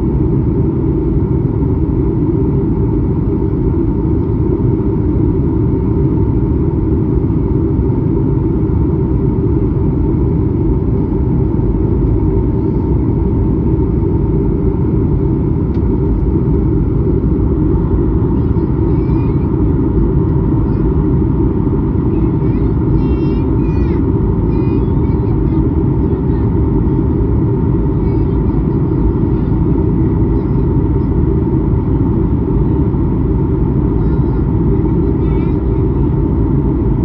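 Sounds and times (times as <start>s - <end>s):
engine and air rumble: 0.0s - 37.0s.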